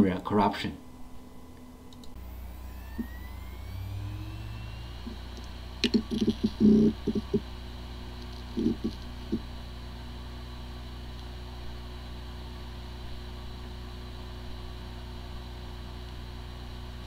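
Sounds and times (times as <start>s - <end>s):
hard drive spinning whine: 0.0s - 17.0s.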